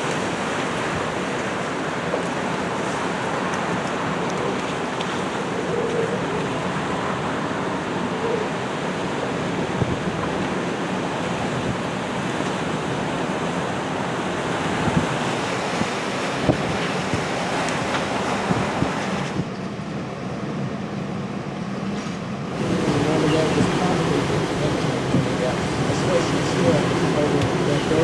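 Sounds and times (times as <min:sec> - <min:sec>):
surf: 0:00.0 - 0:19.5, 0:21.9 - 0:28.0
wind buffeting microphone: 0:00.0 - 0:19.6, 0:22.3 - 0:28.0
storm wind: 0:00.0 - 0:28.0.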